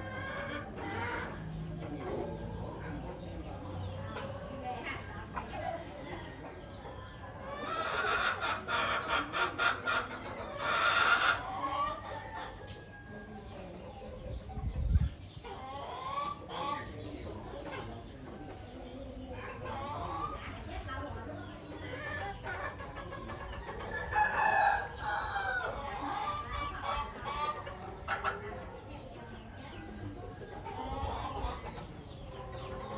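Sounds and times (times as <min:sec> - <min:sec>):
chicken clucking: 0:00.0 - 0:32.9.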